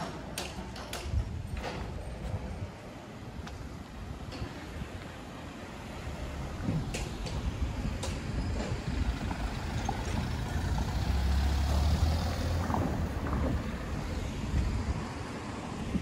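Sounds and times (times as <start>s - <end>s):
street traffic: 0.0s - 16.0s
vehicle engine rumble: 0.0s - 16.0s.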